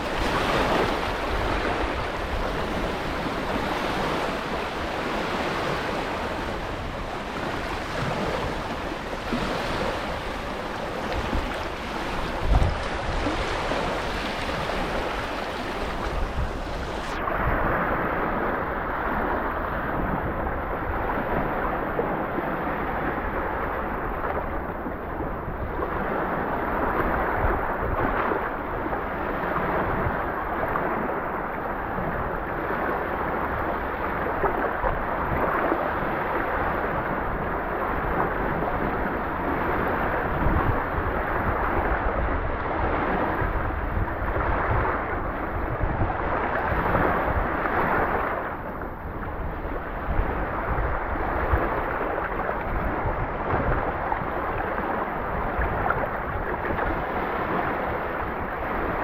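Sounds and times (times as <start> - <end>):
sea waves washing in and out: 0.0 - 59.0.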